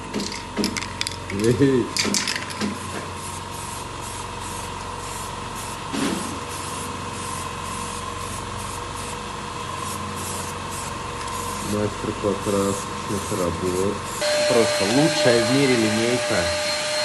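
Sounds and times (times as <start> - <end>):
steady background hum: 0.0 - 17.0
spray paint hissing bursts: 2.2 - 16.1.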